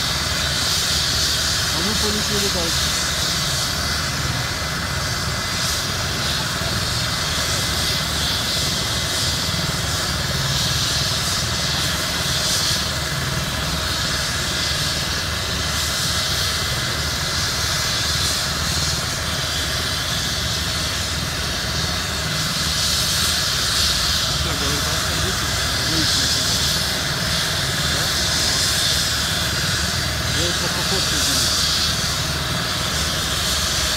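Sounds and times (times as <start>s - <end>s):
helicopter rotor rushing: 0.0s - 33.9s
helicopter turbine whine: 0.0s - 33.9s.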